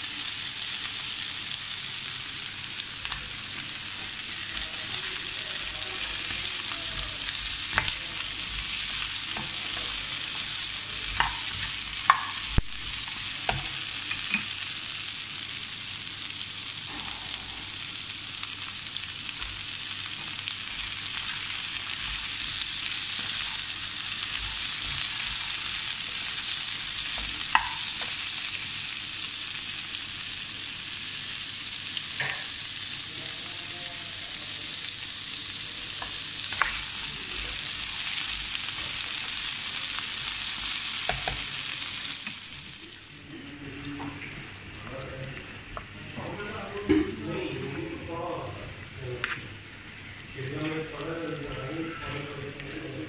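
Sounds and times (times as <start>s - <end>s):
vegetables sizzling in a wok: 0.0s - 53.0s.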